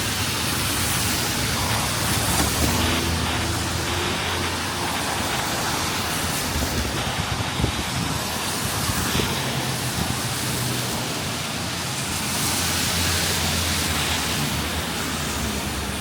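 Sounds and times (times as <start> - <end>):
city traffic on wet streets: 0.0 - 16.0
steady rain: 0.0 - 16.0
vehicle passing with tyre hiss: 0.0 - 16.0.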